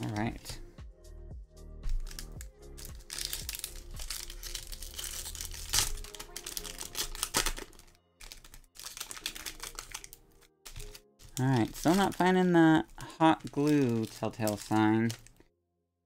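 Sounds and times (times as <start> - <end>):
foil wrapper crinkling: 1.9 - 15.4.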